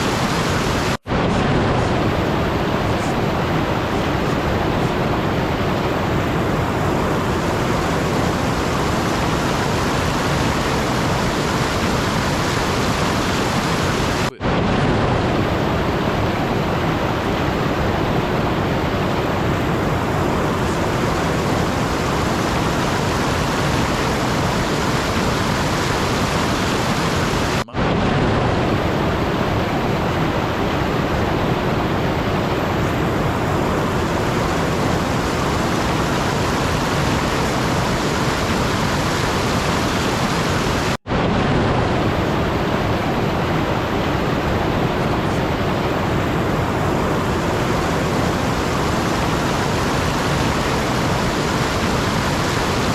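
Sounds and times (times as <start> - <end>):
steady rushing noise: 0.0 - 52.9.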